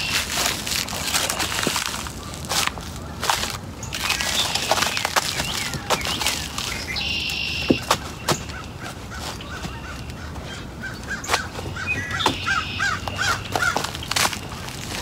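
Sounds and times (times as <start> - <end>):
dry sticks cracking: 0.0 - 15.0
harsh bird calls: 0.0 - 15.0.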